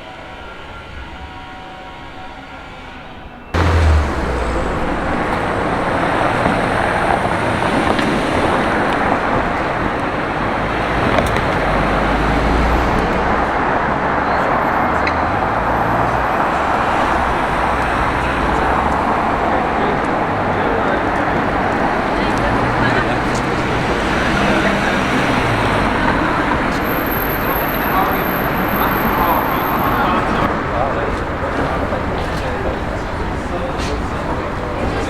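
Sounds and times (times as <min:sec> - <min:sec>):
passing cars: 0:03.2 - 0:35.0
low engine rumble: 0:03.5 - 0:35.0.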